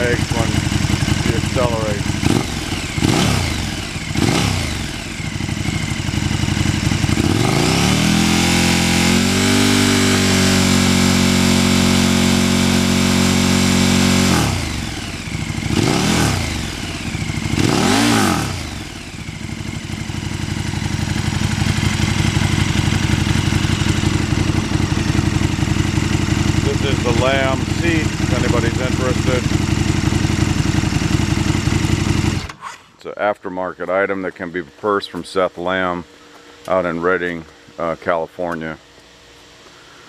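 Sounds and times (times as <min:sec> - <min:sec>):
motorcycle engine idling: 0:00.0 - 0:32.6
motorcycle engine revving: 0:00.0 - 0:32.7.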